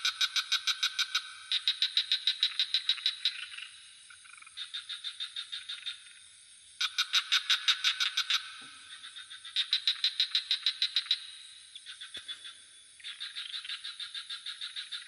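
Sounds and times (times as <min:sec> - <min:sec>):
frogs calling in pulsed trains: 0:00.0 - 0:15.0
high insect drone: 0:00.0 - 0:15.0.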